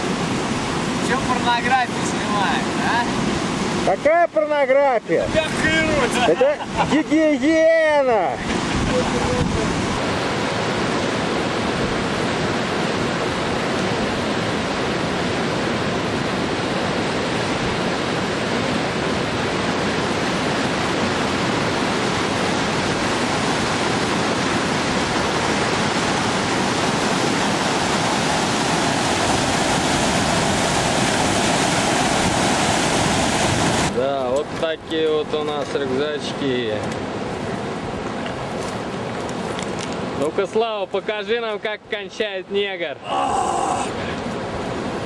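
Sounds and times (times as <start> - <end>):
river rushing over stones: 0.0 - 45.0.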